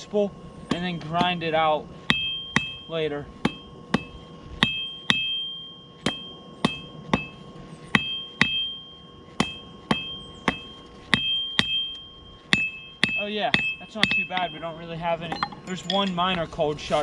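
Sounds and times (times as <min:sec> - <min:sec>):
anvil ringing: 0:00.7 - 0:16.5.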